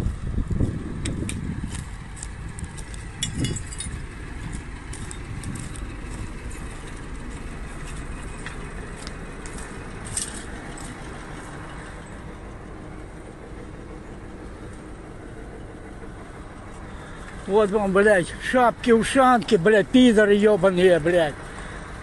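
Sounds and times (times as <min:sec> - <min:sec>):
footsteps crunching over debris: 0:00.0 - 0:12.6, 0:16.3 - 0:21.6
wind rumble: 0:00.0 - 0:18.4.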